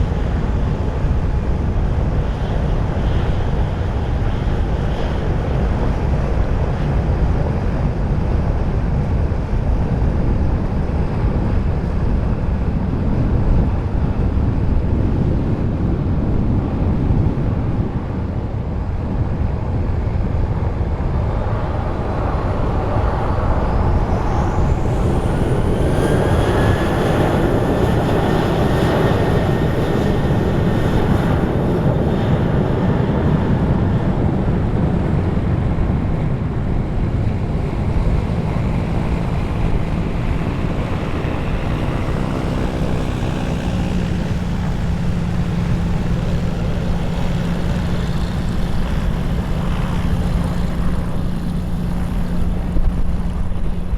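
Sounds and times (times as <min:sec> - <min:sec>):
jet airliner passing: 0:00.0 - 0:53.9
wind buffeting microphone: 0:00.0 - 0:53.9.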